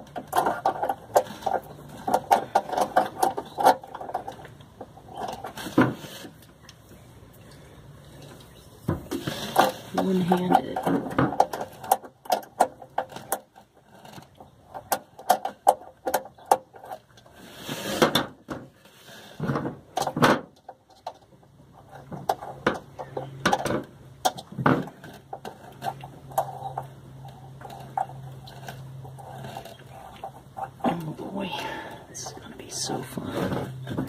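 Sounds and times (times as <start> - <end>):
low steady hum: 0.0 - 17.6, 18.2 - 34.0.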